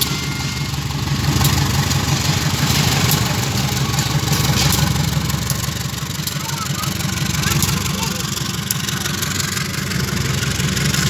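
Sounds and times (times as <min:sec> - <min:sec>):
diesel locomotive engine throbbing: 0:00.0 - 0:11.0.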